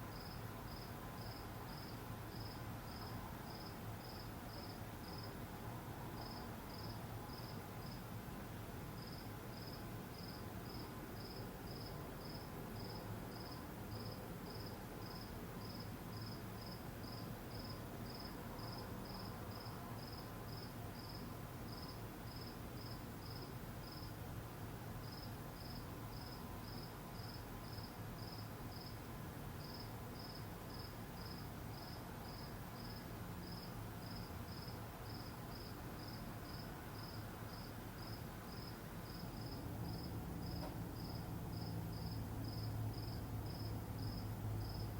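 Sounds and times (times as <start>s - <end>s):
low background noise: 0.0s - 44.9s
cricket chirping: 0.1s - 5.4s, 6.2s - 8.0s, 9.0s - 24.1s, 25.0s - 29.0s, 29.6s - 44.9s.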